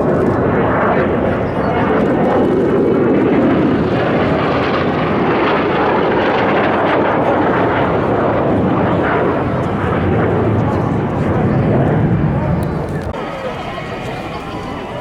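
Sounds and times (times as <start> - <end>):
jet engines flying past: 0.0 - 15.0.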